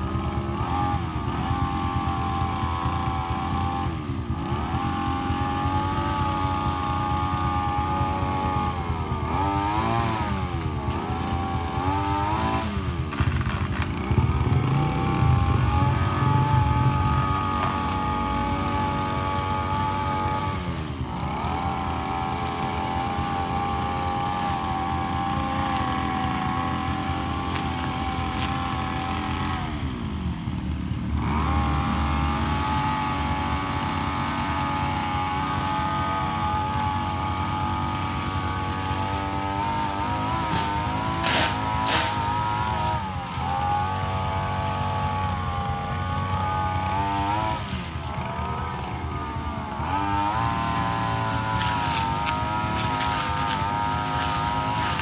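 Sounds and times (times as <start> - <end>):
two-stroke engine running: 0.0 - 55.0.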